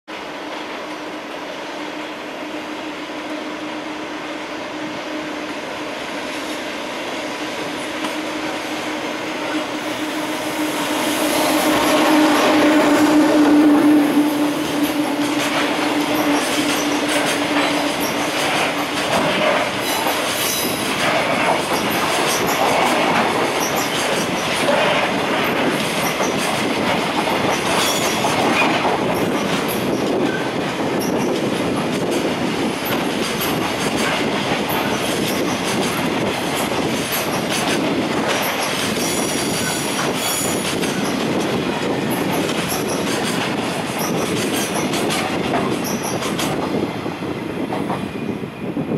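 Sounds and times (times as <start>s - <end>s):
train wheels rumbling on rail: 0.1s - 48.9s.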